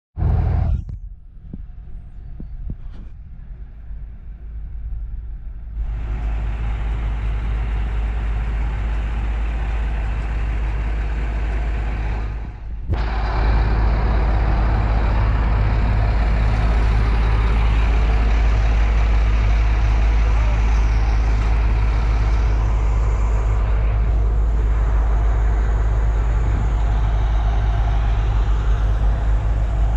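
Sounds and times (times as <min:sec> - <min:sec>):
diesel engine rumbling: 0:00.2 - 0:29.9.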